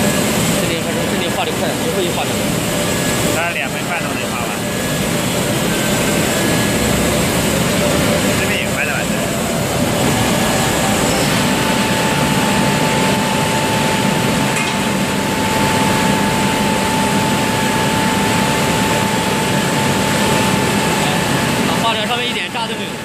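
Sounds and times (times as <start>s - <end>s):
melting furnace machinery noise: 0.0s - 23.0s
steady whine: 0.0s - 23.0s.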